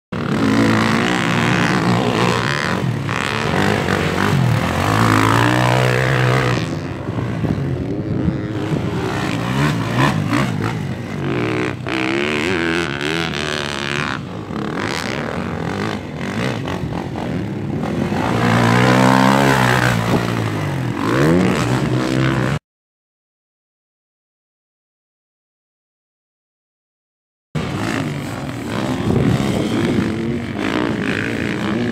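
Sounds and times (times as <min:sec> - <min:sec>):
motocross bike engine revving: 0:00.2 - 0:22.6, 0:27.6 - 0:31.9.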